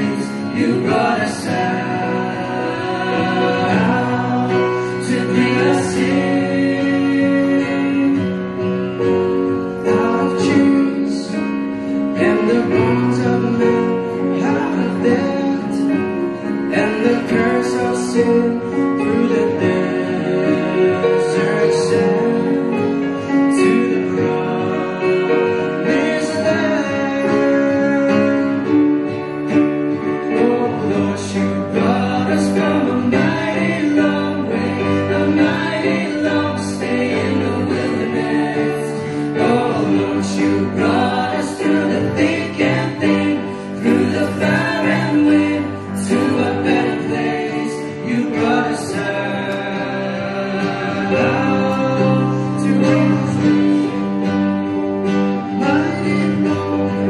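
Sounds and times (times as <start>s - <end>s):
strummed acoustic guitars: 0.0s - 57.0s
voices singing in harmony: 0.0s - 57.0s.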